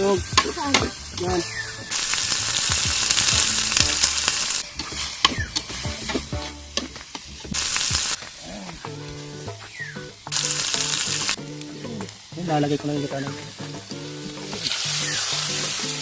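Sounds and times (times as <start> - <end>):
chicken sizzling in frying pan: 0.0 - 16.0.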